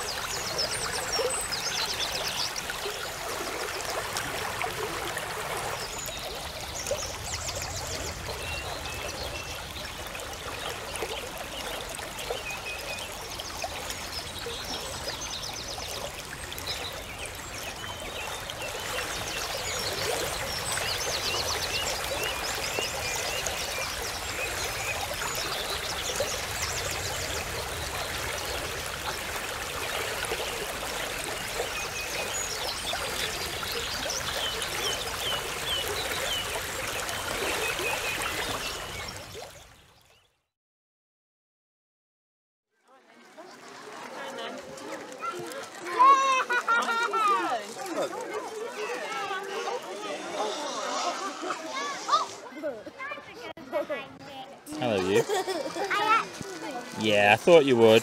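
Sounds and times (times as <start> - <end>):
river water flowing: 0.0 - 40.0, 43.0 - 58.0.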